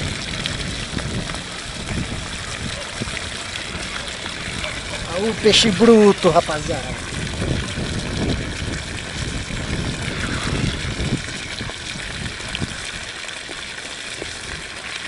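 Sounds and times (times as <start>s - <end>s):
pond water splashing and trickling: 0.0s - 15.0s.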